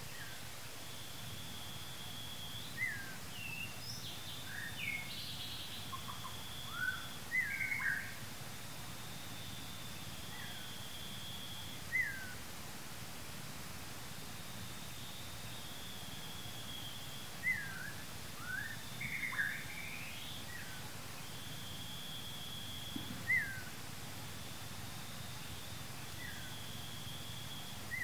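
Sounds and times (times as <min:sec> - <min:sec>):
low background hum: 0:00.0 - 0:28.0
birds chirping: 0:01.5 - 0:12.5, 0:15.3 - 0:28.0.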